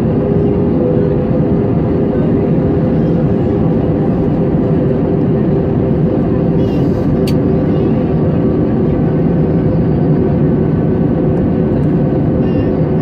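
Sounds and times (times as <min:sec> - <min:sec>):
airliner engine and airflow noise: 0:00.0 - 0:13.0.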